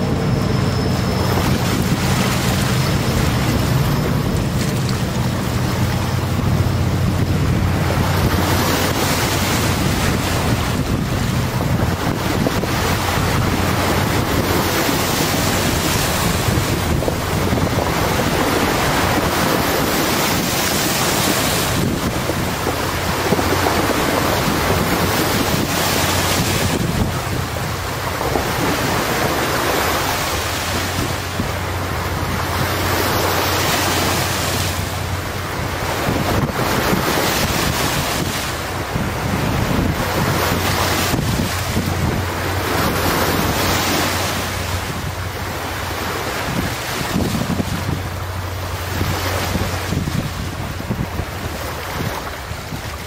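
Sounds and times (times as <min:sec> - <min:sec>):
ferry engine hum: 0:00.0 - 0:53.0
water rushing: 0:00.0 - 0:53.0
wind buffeting microphone: 0:00.0 - 0:53.0.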